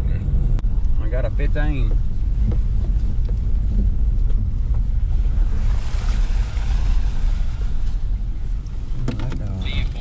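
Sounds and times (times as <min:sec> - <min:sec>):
truck cab low rumble: 0:00.0 - 0:10.0.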